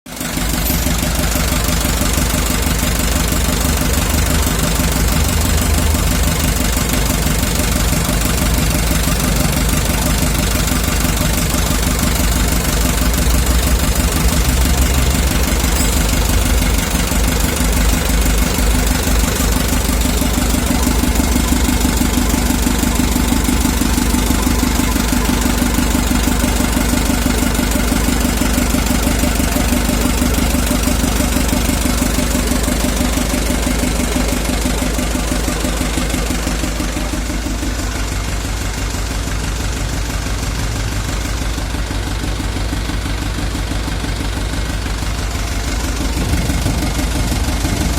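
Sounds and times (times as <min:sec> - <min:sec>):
diesel truck engine idling: 0:00.1 - 0:47.9.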